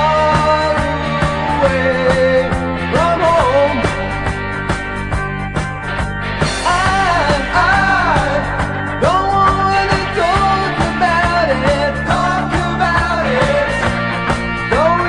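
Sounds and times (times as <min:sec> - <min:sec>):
person singing: 0:00.0 - 0:04.4, 0:06.6 - 0:15.0
steady drum beat: 0:00.0 - 0:15.0
sustained bass notes: 0:00.0 - 0:15.0.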